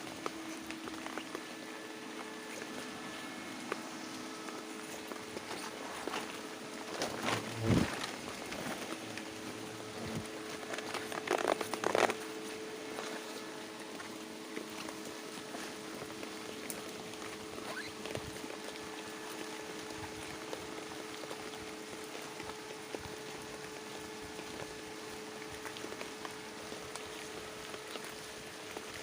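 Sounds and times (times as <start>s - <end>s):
rain pattering and dripping: 0.0s - 29.0s
steady low hum: 0.0s - 29.0s.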